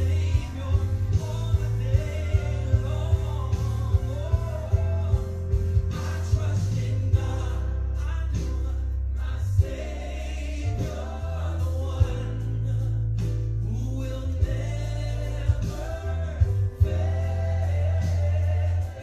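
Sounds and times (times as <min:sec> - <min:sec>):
low bass notes: 0:00.0 - 0:19.0
person singing: 0:00.0 - 0:19.0.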